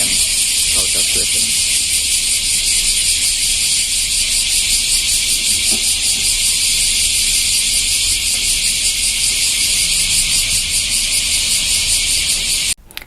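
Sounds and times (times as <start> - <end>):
cicadas buzzing: 0.0 - 12.8.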